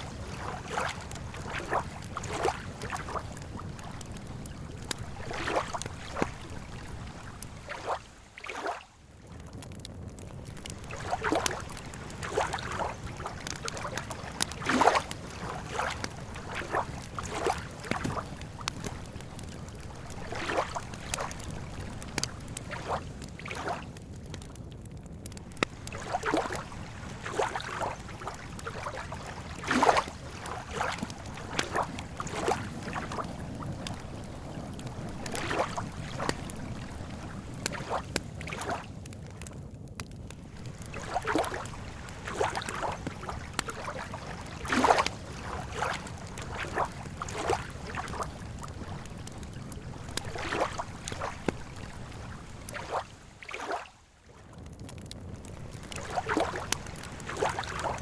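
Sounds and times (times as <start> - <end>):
small waves lapping: 0.0 - 9.4, 10.1 - 24.5, 25.3 - 39.5, 40.3 - 54.4, 55.4 - 58.0.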